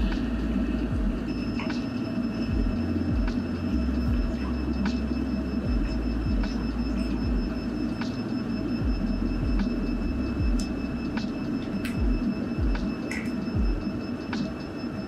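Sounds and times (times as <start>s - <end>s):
continuous high tone: 0.0s - 15.0s
water chiller low rumble: 0.0s - 15.0s.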